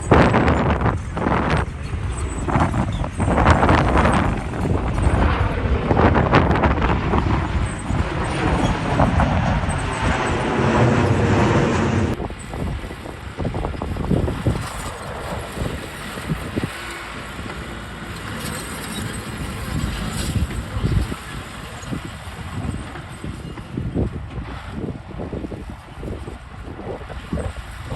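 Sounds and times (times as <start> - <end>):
heavy machinery engines running: 0.0 - 27.9
wind on microphone: 0.0 - 27.9.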